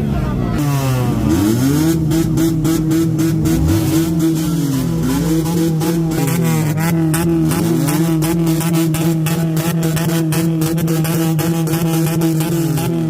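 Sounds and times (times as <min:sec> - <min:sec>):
car engine revving: 0:00.0 - 0:13.0
exhaust crackling and popping: 0:01.2 - 0:13.0.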